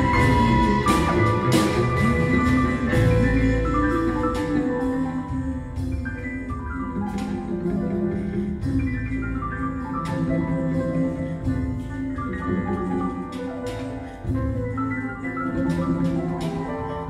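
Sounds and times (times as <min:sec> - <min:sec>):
double bass: 0:00.0 - 0:17.0.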